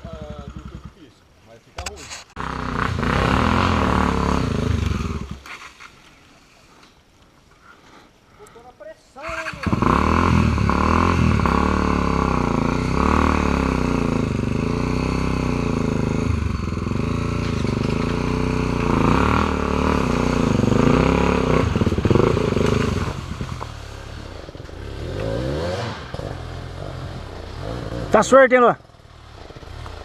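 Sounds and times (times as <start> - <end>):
motorcycle engine revving: 0.0 - 1.2, 2.4 - 5.5, 9.3 - 30.0.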